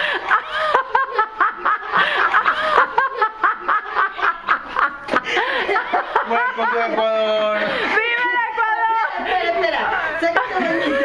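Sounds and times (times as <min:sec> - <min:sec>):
people laughing hard: 0:00.0 - 0:11.0.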